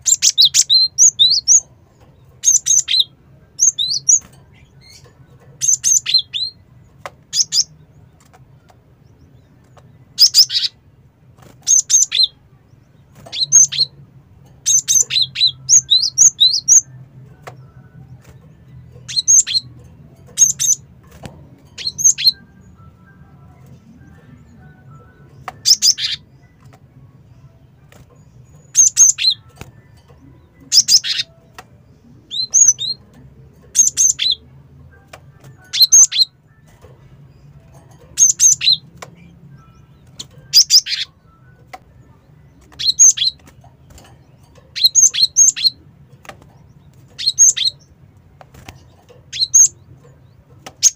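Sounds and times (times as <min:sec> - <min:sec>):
bird calling with sharp high notes: 0:00.0 - 0:10.8, 0:11.4 - 0:12.4, 0:13.2 - 0:14.0, 0:14.6 - 0:18.3, 0:18.9 - 0:26.8, 0:27.4 - 0:33.0, 0:35.0 - 0:36.9, 0:38.2 - 0:50.9.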